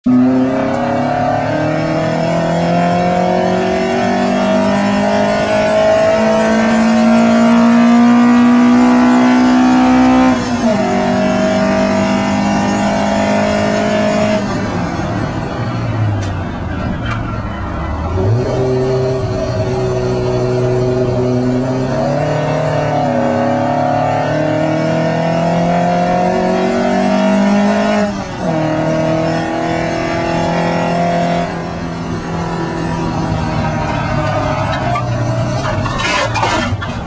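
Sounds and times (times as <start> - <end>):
racing engine accelerating: 0.1 - 37.0.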